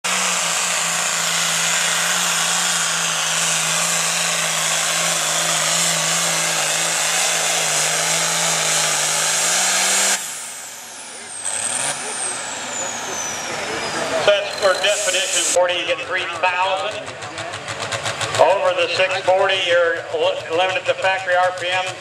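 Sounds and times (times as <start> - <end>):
diesel engine running hard: 0.0 - 22.0.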